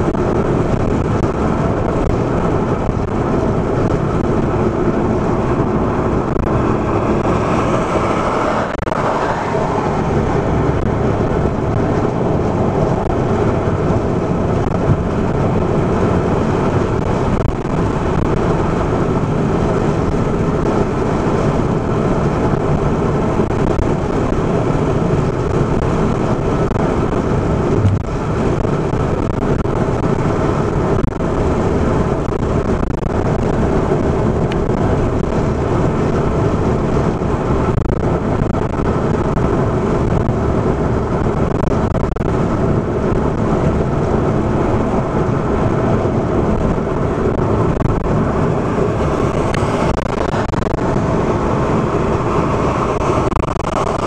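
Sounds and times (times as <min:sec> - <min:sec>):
car engine drone: 0:00.0 - 0:54.0
road and tyre noise: 0:00.0 - 0:54.0.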